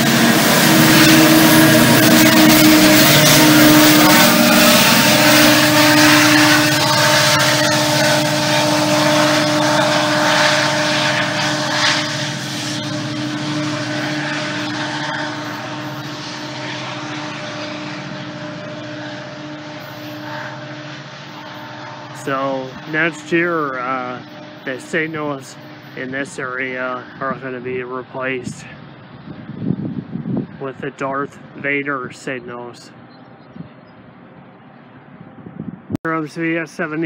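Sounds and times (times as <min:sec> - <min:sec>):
diesel locomotive engine drone: 0:00.0 - 0:37.0
wheel and rail noise: 0:00.0 - 0:37.0.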